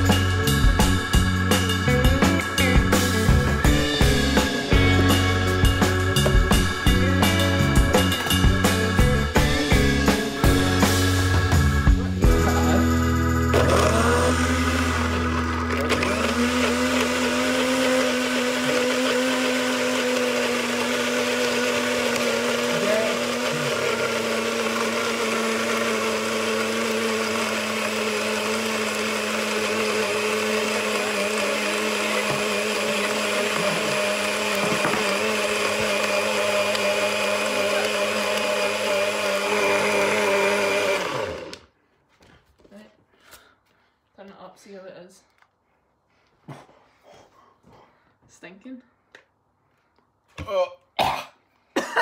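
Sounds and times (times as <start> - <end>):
blender running: 0.0 - 41.7.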